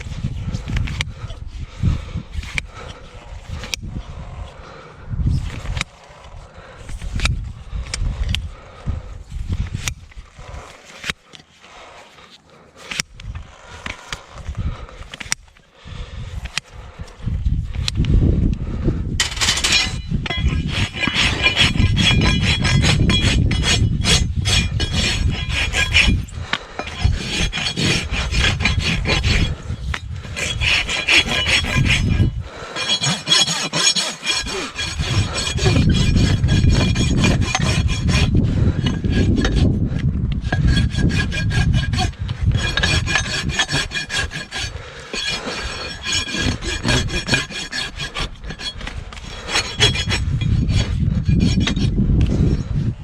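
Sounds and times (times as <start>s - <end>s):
rasp filing a hoof: 0.0s - 4.8s, 5.4s - 8.5s, 9.5s - 15.5s, 19.2s - 52.9s.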